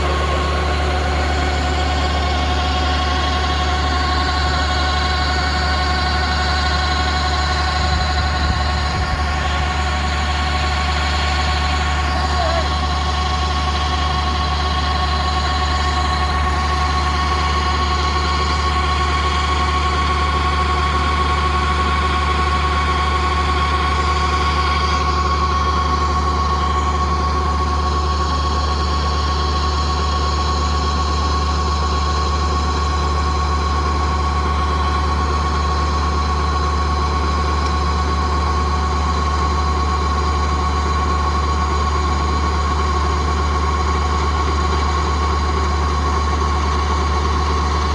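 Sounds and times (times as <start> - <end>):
combine harvester diesel engine: 0.0 - 47.9
high whine from drives: 0.0 - 47.9.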